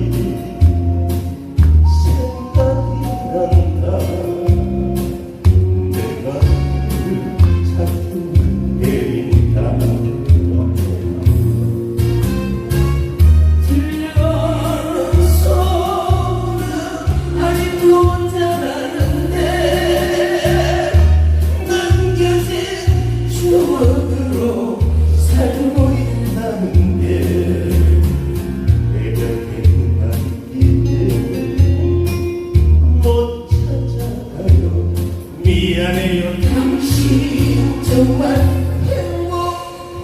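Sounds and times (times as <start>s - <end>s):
person singing: 0.0s - 11.7s, 13.6s - 32.3s, 32.9s - 40.0s
backing track with heavy bass beat: 0.0s - 40.0s.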